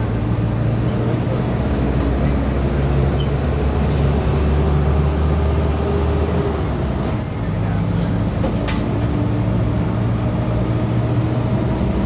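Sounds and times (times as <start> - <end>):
diesel bus engine droning: 0.0 - 12.0.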